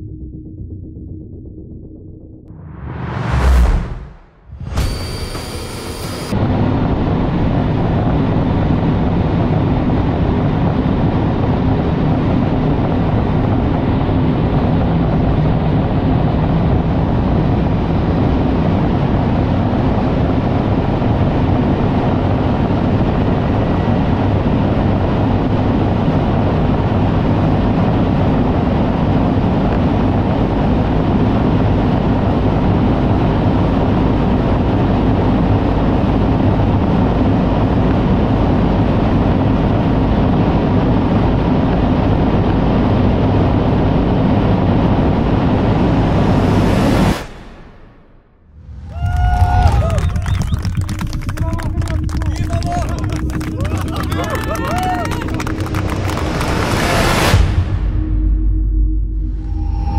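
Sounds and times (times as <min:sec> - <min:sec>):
wind and tyre noise: 0:02.6 - 0:47.9, 0:48.6 - 0:53.6.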